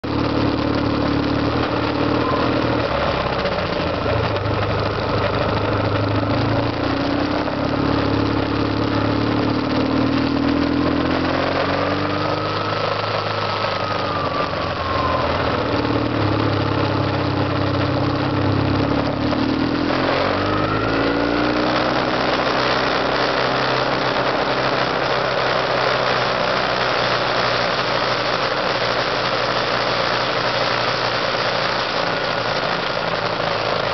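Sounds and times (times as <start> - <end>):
motorcycle engine while riding: 0.0 - 33.9
wind and road noise: 0.0 - 33.9.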